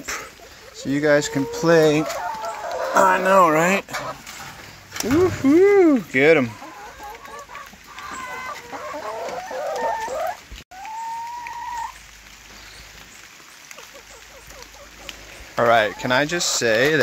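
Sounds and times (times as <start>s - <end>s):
chickens clucking: 0.0s - 12.1s, 13.4s - 17.0s.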